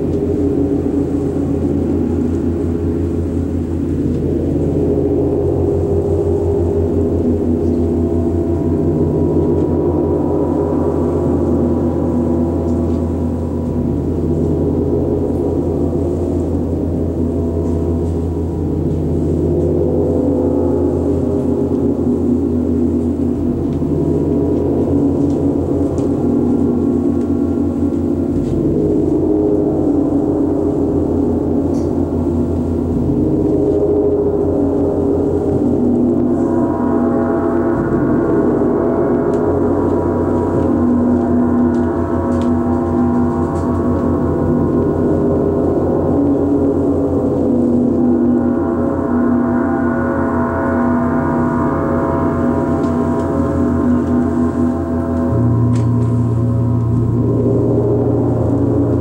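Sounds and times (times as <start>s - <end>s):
large gongs ringing: 0.0s - 59.0s.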